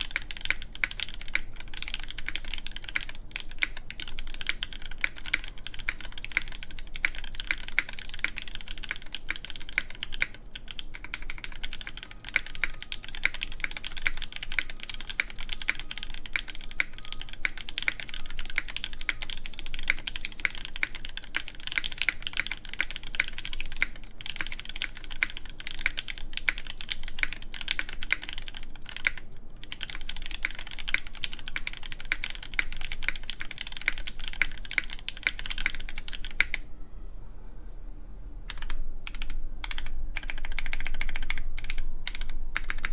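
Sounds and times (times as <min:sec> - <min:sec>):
mechanical keyboard typing: 0:00.0 - 0:36.6, 0:38.5 - 0:42.9.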